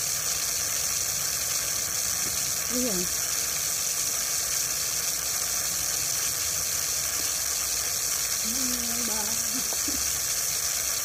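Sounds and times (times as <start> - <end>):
water running from a garden hose: 0.0 - 11.0.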